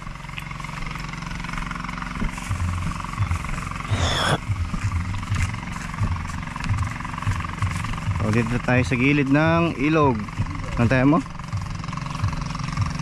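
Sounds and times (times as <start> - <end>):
small engine humming: 0.0 - 13.0
low bumps: 1.4 - 13.0.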